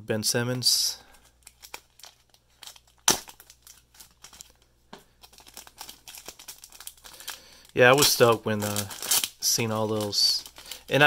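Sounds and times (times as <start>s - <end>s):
plastic wrapping crinkling: 1.0s - 11.0s
plastic wrapping tearing: 1.4s - 4.6s, 5.2s - 11.0s.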